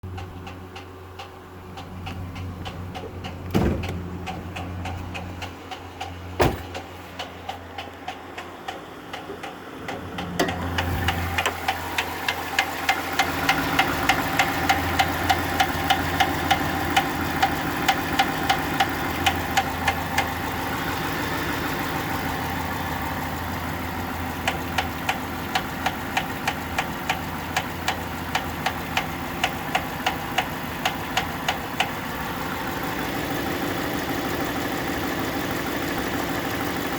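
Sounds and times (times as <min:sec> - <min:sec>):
engine running with knock: 0:00.1 - 0:36.9.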